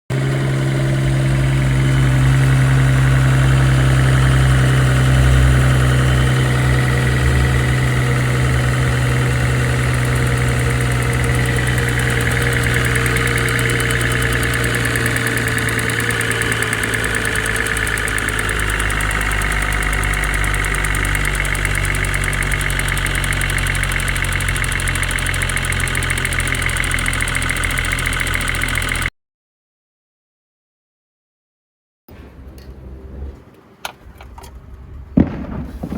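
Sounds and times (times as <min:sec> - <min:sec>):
car engine idling: 0:00.1 - 0:29.1
fast steady ticking: 0:00.1 - 0:29.1.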